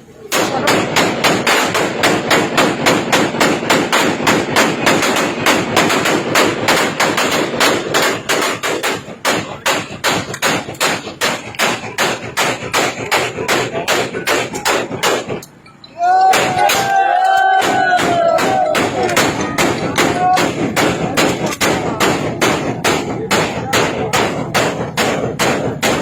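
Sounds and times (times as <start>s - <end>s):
rapid gunfire: 0.3s - 15.4s, 17.6s - 26.0s.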